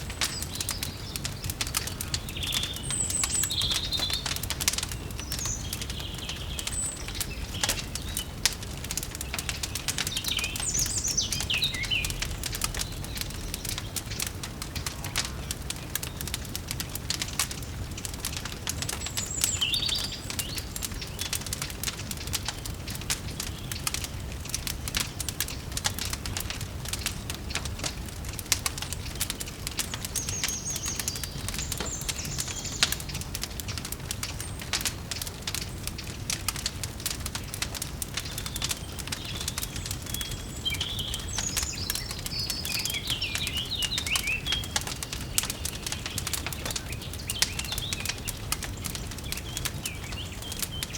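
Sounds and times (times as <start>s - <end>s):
birds chirping: 0.0s - 50.9s
wood fire crackling: 0.0s - 50.9s.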